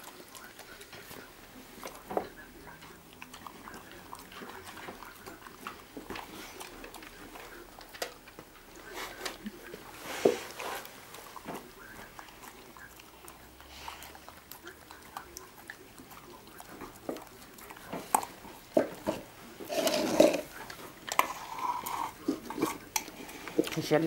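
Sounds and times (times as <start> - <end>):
puppies chewing food: 0.0 - 24.0.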